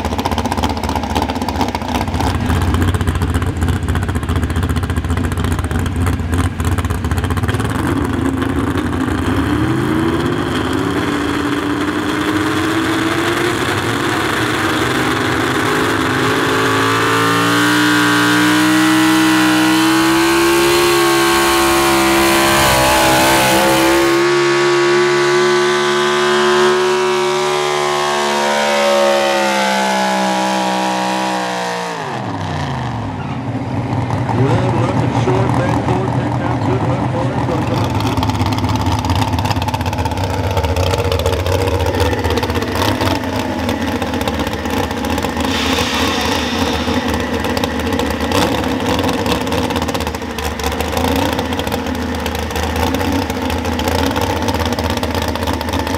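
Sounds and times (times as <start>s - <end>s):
truck engine running under load: 0.0s - 55.9s.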